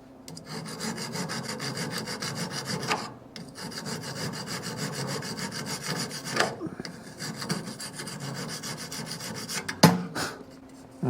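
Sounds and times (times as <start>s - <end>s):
hand file rasping on steel: 0.3s - 10.0s.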